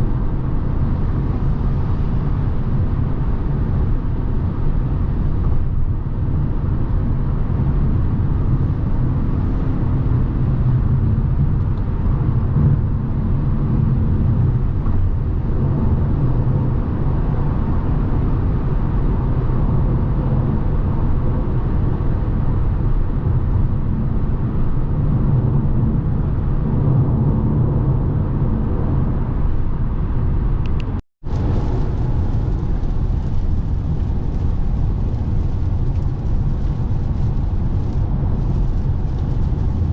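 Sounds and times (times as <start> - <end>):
road and wind noise in car: 0.0 - 39.9.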